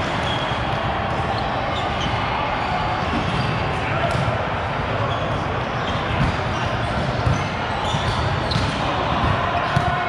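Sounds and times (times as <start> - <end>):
dense background din: 0.0 - 10.0.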